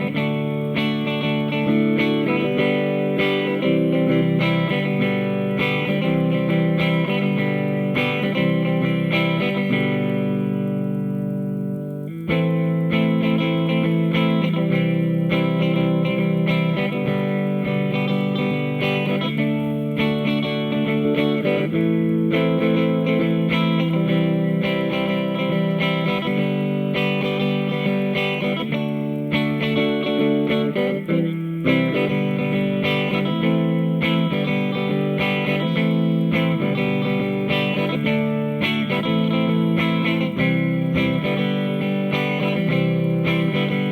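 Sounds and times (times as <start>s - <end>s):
electric guitar chords: 0.0s - 43.9s.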